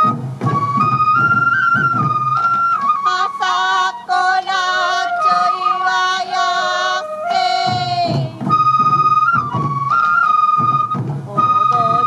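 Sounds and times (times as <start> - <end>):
high bamboo flute: 0.0 - 12.0
taiko drums: 0.0 - 12.0.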